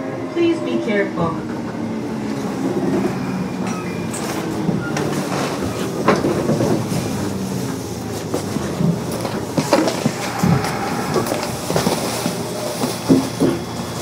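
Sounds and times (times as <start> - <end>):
train wheels and motors rumbling: 0.0 - 14.0
clacks over rail joints: 1.4 - 14.0.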